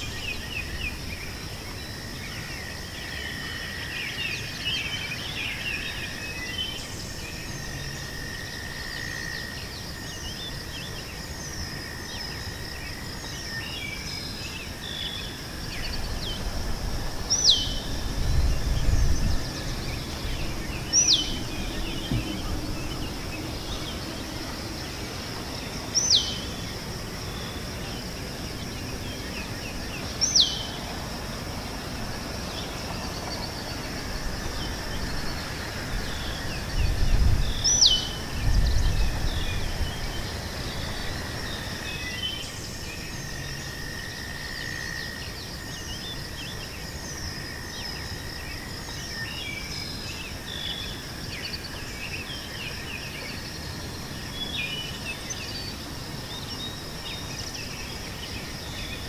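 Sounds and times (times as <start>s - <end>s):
insect hum: 0.0s - 59.0s.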